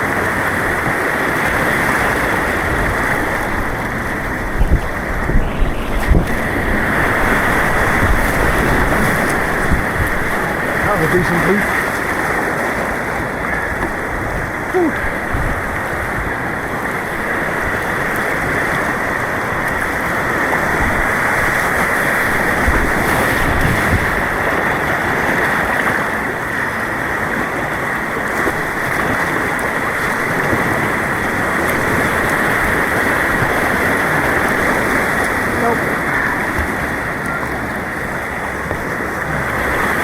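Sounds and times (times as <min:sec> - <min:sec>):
white water rushing: 0:00.0 - 0:40.0.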